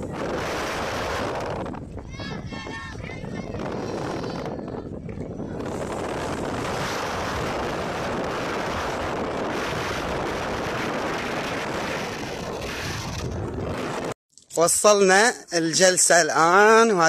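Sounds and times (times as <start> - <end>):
wind rushing over microphone: 0.0 - 14.2.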